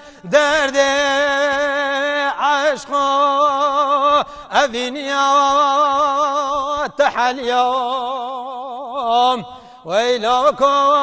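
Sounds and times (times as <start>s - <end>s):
man singing unaccompanied: 0.2s - 11.0s.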